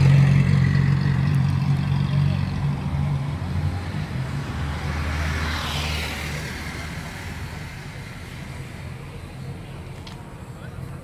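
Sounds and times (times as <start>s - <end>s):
vehicle passing: 0.0s - 11.0s.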